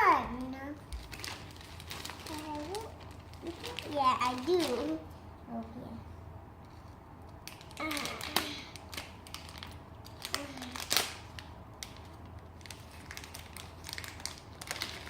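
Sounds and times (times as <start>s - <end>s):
wrapper crinkling and tearing: 0.4s - 5.0s, 7.4s - 15.0s.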